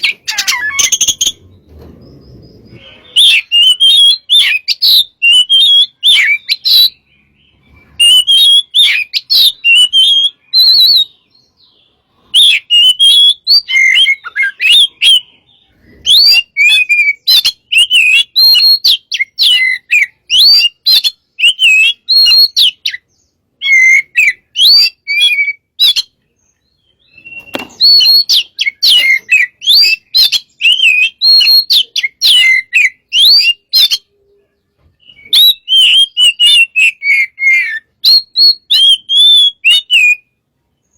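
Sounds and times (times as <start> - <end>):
songbird whistling and chirping: 0.0 - 40.9.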